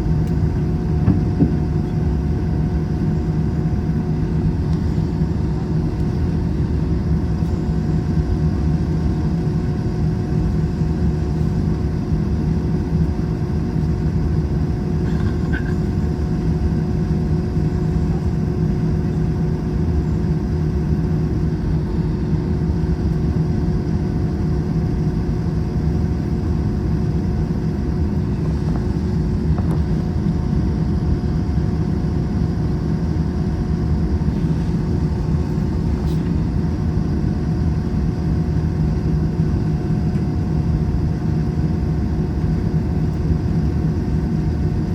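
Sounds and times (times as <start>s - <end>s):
constant humming tones: 0.0s - 44.9s
jet engine and airflow drone: 0.0s - 44.9s.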